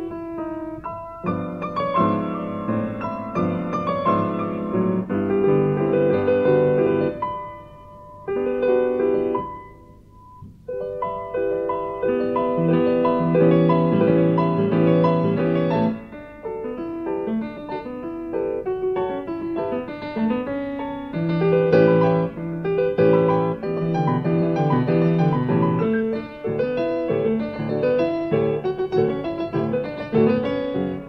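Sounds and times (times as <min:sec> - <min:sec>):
classical piano duet: 0:00.0 - 0:31.0.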